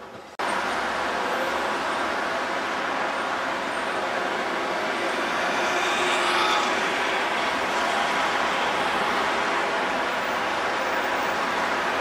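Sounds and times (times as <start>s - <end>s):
road vehicles: 0.0s - 12.0s
tram running on tracks: 0.0s - 12.0s.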